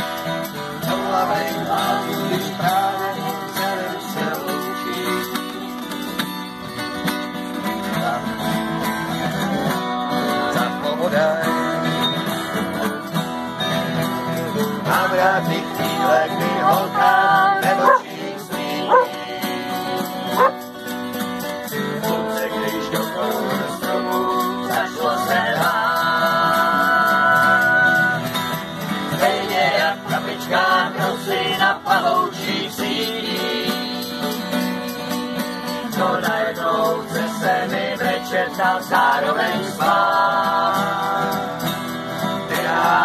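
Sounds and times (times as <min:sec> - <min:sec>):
acoustic guitar strumming: 0:00.0 - 0:43.0
man singing: 0:00.7 - 0:05.7, 0:07.7 - 0:13.1, 0:14.5 - 0:20.6, 0:21.7 - 0:28.3, 0:29.1 - 0:35.1, 0:36.0 - 0:41.6.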